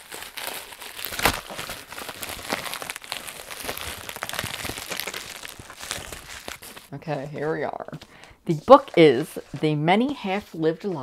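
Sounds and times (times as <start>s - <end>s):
tissue paper crinkling: 0.0s - 7.5s, 8.5s - 11.0s.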